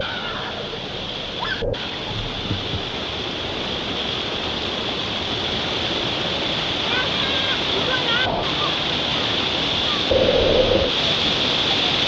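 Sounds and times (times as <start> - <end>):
waterfall: 0.0 - 12.0.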